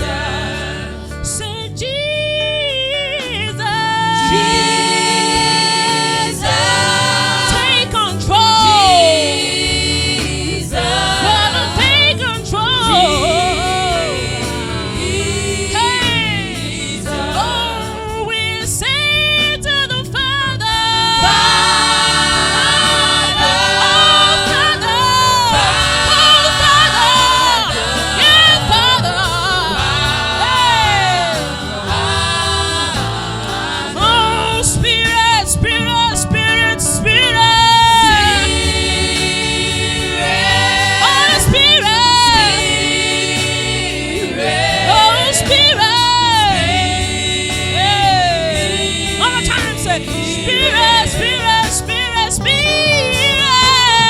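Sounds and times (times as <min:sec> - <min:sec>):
gospel singing with instruments: 0:00.0 - 0:54.0.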